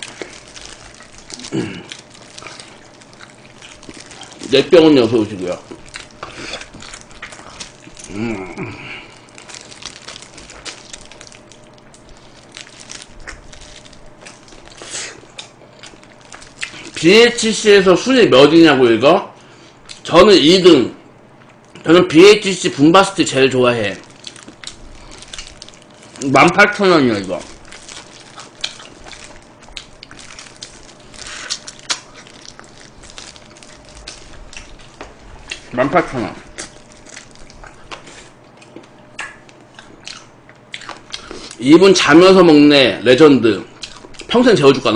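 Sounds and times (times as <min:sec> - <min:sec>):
person chewing crunchy food: 0:00.0 - 0:17.5, 0:23.6 - 0:41.6, 0:43.7 - 0:44.9.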